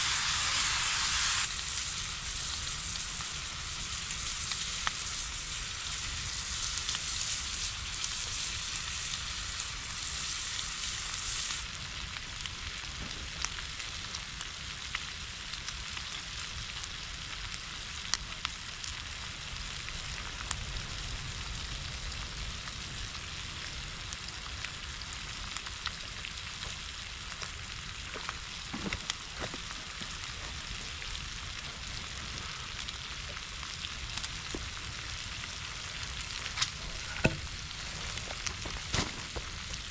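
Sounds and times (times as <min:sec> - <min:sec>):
food sizzling in a pan: 0:00.0 - 0:39.9
small popping of frying food: 0:00.0 - 0:39.9.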